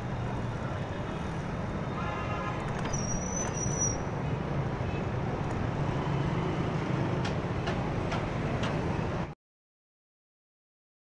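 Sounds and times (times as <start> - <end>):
city traffic: 0.0 - 9.4
road and wind noise: 0.0 - 9.4.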